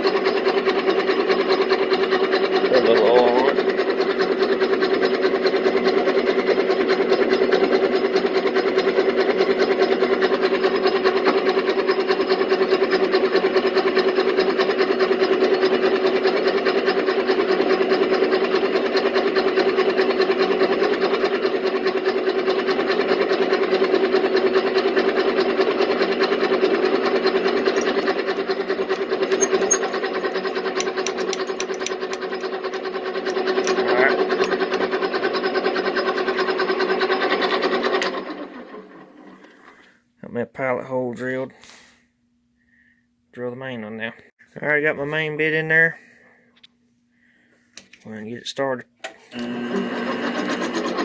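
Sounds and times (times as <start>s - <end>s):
metal lathe drilling: 0.0s - 39.4s, 49.3s - 51.0s
motor hum: 0.0s - 40.0s, 49.0s - 51.0s.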